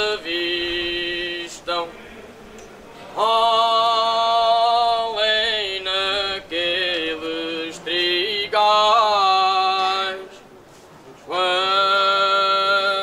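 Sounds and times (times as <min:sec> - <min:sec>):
person singing slow song: 0:00.0 - 0:10.5, 0:11.3 - 0:13.0.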